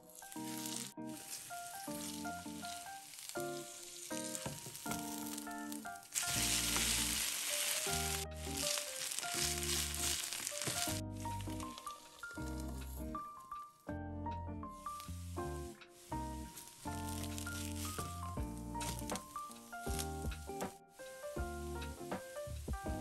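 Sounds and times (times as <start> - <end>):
potato sizzling in a pan: 0.0 - 13.4, 14.8 - 23.0
light background music: 0.0 - 23.0.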